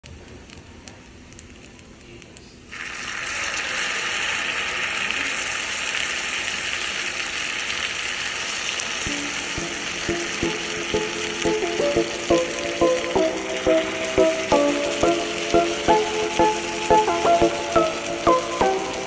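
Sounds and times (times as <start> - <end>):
fried rice sizzling on hot plate: 2.7 - 19.0.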